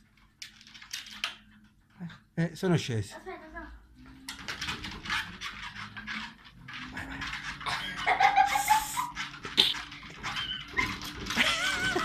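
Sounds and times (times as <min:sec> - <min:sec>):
dog paws tapping on treadmill: 0:00.0 - 0:12.0
treadmill motor hum: 0:00.0 - 0:12.0.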